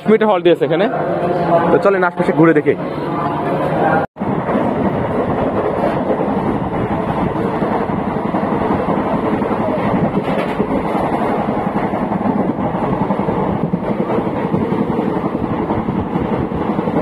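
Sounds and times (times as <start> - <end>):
train rumbling and clattering: 0.0 - 17.0.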